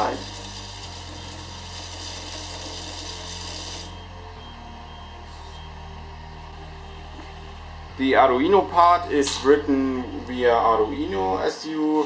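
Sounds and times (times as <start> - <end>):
vibration motor humming: 0.0 - 12.0.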